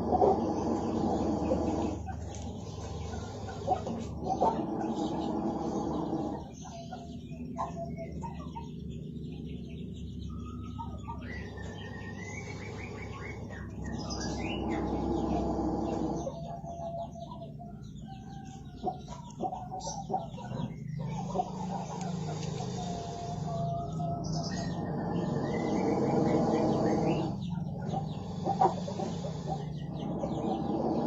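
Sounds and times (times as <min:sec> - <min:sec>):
birds chirping and calling: 0:00.0 - 0:31.0
low background rumble: 0:00.0 - 0:31.0.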